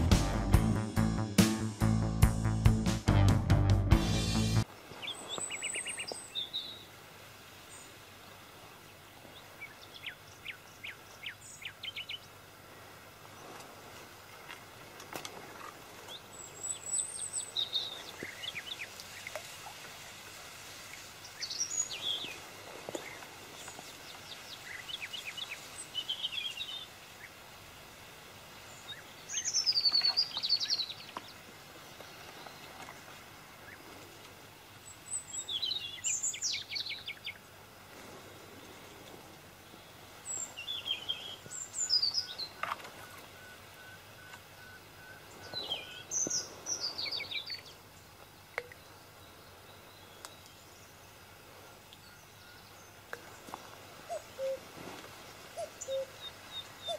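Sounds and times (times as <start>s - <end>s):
songbirds chirping: 4.0s - 56.9s
faint steady background hiss: 4.2s - 56.9s.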